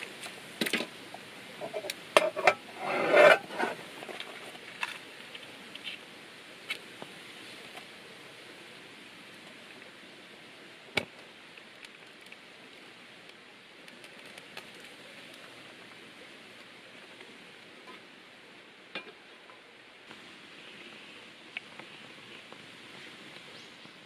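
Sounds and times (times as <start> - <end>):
rain hiss: 0.0 - 24.0.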